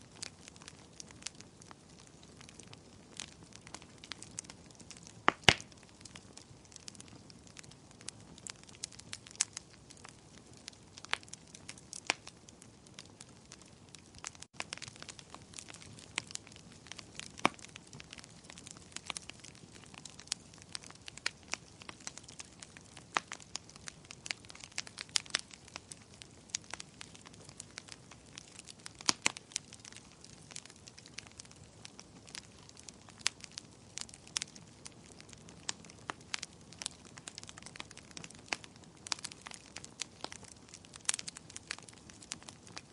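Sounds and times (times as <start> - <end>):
fireplace fire crackling: 0.0 - 42.9
soft steady hiss: 0.0 - 42.9.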